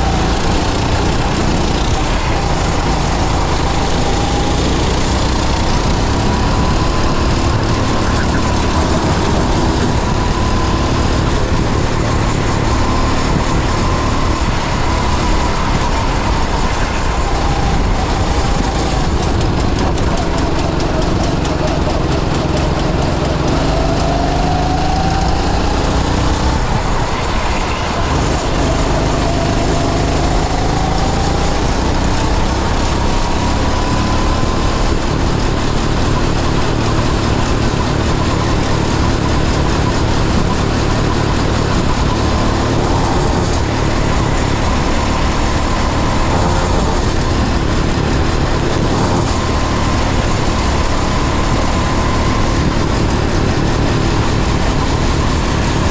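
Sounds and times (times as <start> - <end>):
go-kart engine accelerating: 0.0 - 55.9.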